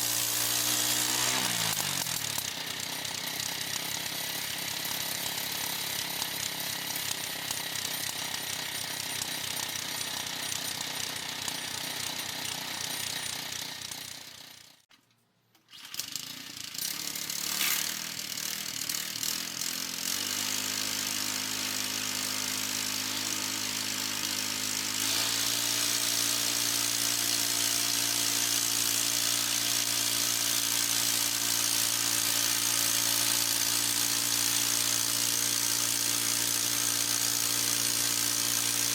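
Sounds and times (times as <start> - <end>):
band sawmill running: 0.0 - 14.7, 15.8 - 38.9.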